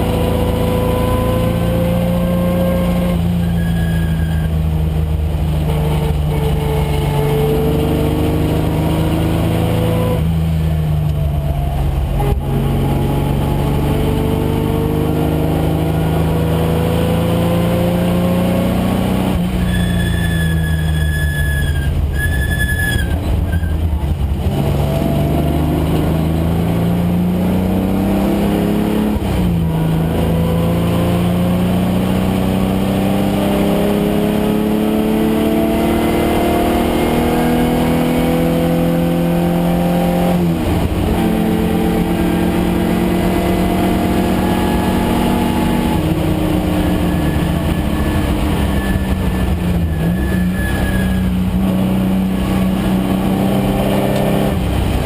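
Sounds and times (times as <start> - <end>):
car engine revving hard: 0.0 - 3.7, 4.5 - 19.7, 24.1 - 55.0.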